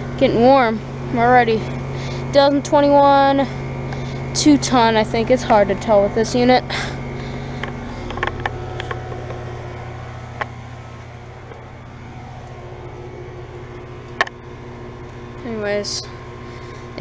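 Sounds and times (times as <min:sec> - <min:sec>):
heat pump humming: 0:00.0 - 0:17.0.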